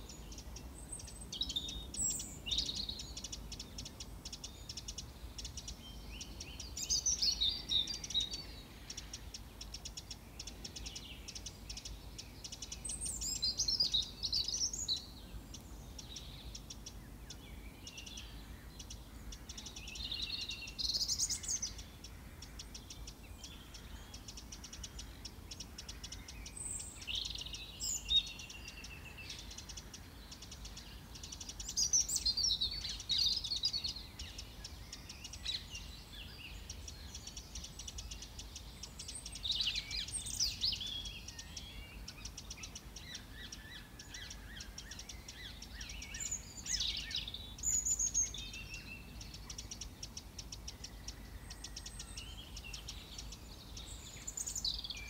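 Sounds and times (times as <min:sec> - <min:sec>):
faint outdoor hiss: 0:00.0 - 0:55.0
songbirds chirping and trilling: 0:00.0 - 0:55.0.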